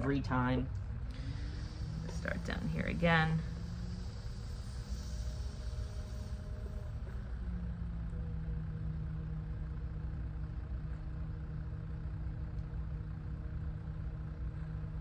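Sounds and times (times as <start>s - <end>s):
pottery wheel motor hum: 0.0s - 15.0s.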